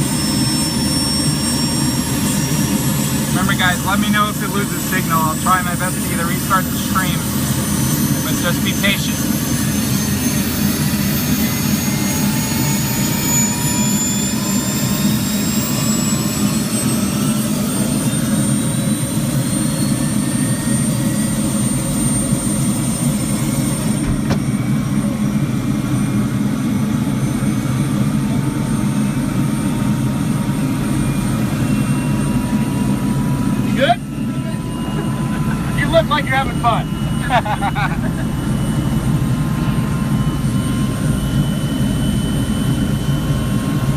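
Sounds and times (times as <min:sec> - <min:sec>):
helicopter engine and rotor: 0:00.0 - 0:43.9
high engine whine: 0:00.0 - 0:43.9.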